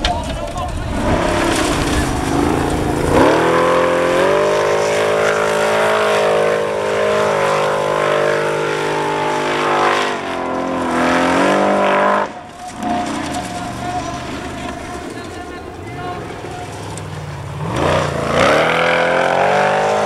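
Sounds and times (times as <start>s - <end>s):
buggy engine at full throttle: 0.0s - 20.0s.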